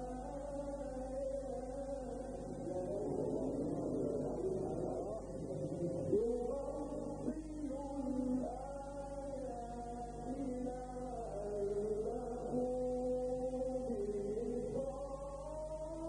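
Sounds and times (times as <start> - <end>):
low electrical hum: 0.0 - 16.0
man reciting melodically: 0.0 - 16.0.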